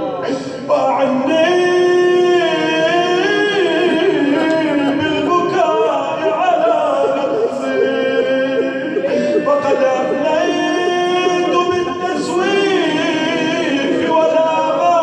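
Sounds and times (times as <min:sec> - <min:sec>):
melodic vocal chanting: 0:00.0 - 0:15.0.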